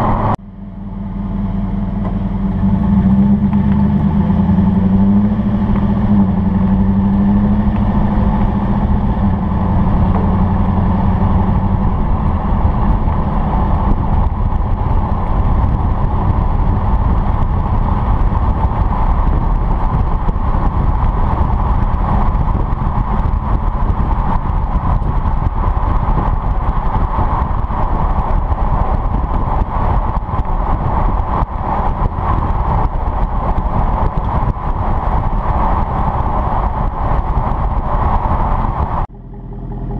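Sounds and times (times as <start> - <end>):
engine and exhaust running: 0.0 - 39.9
road noise: 0.0 - 39.9.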